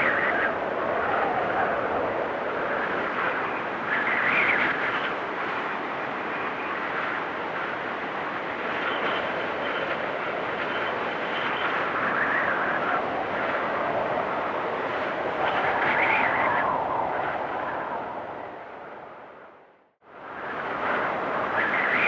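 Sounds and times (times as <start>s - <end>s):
blizzard wind rushing: 0.0s - 22.0s.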